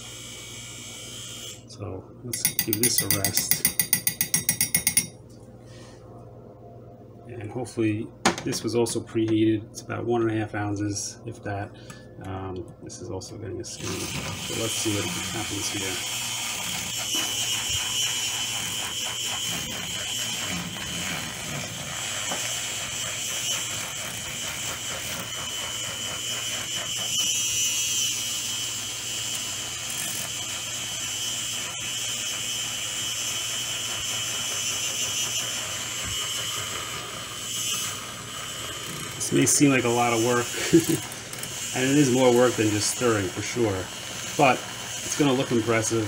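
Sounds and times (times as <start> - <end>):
milk frother whirring: 0.0 - 1.7, 2.4 - 5.2, 13.6 - 46.0.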